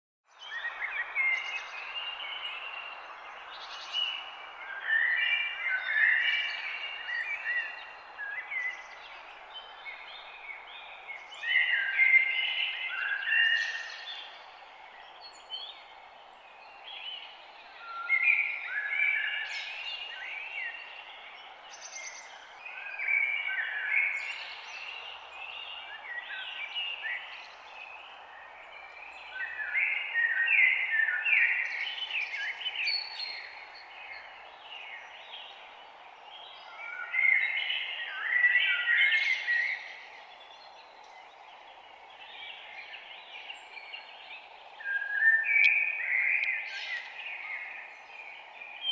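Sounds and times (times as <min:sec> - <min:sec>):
steady background hiss: 0:00.5 - 0:48.9.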